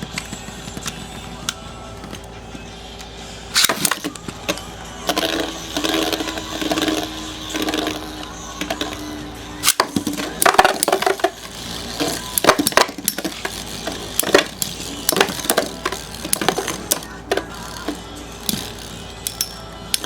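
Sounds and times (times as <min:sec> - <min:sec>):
spinning tops clashing: 0:03.5 - 0:20.0.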